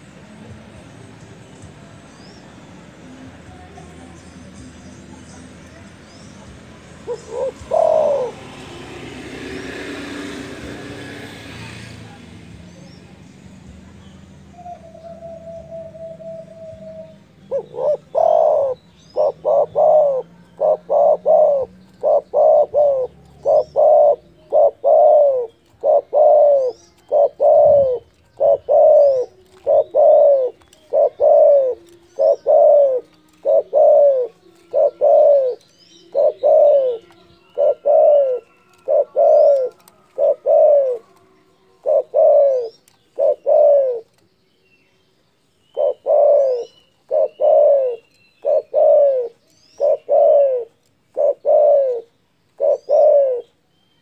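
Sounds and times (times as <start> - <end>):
small birds chirping: 0.0 - 54.0
dove cooing: 4.4 - 12.2, 14.5 - 44.2, 45.7 - 53.7.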